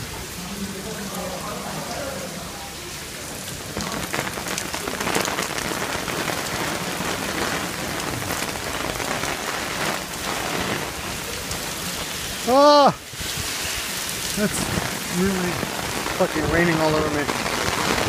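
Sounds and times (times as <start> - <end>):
rain on plastic umbrella: 0.0 - 18.0.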